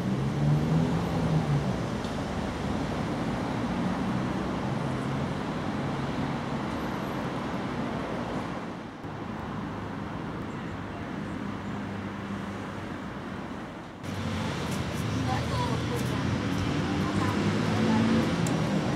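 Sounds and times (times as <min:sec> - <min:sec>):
road traffic: 0:00.0 - 0:18.9.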